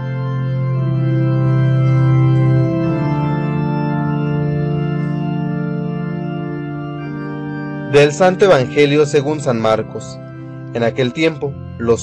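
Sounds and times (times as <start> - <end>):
organ chords: 0.0 - 12.0.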